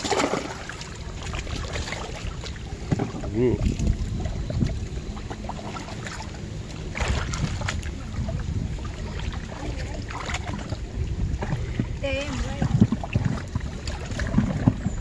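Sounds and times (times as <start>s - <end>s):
muddy water sloshing: 0.0s - 15.0s
wind rumbling on microphone: 0.0s - 15.0s.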